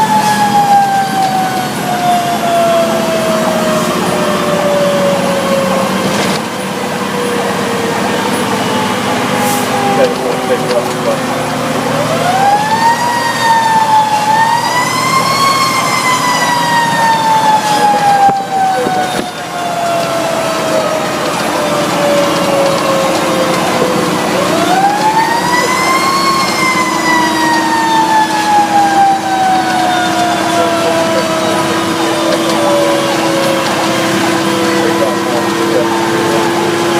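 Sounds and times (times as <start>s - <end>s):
fire truck siren wailing: 0.0s - 36.9s
truck engine running: 0.0s - 36.9s.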